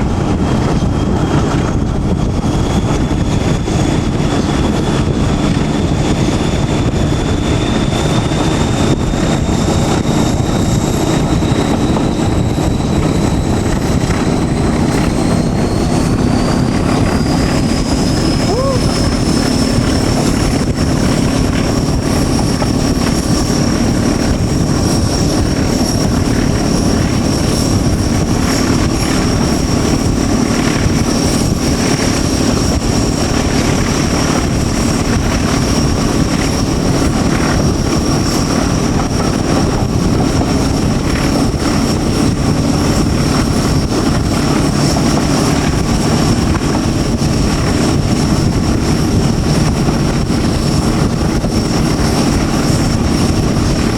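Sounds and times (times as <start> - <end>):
diesel locomotive engine hum: 0.0 - 53.9
high whine: 0.0 - 53.9
rumble of running gear: 0.0 - 53.9.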